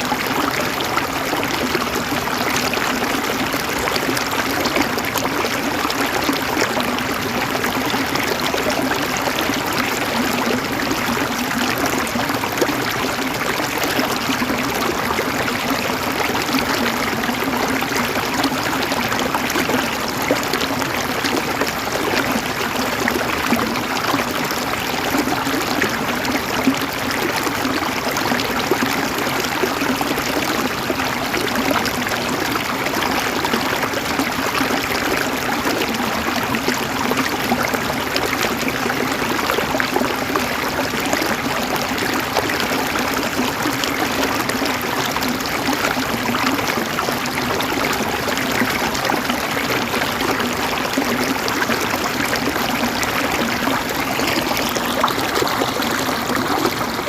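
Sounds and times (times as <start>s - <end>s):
river water babbling over stones: 0.0s - 57.0s.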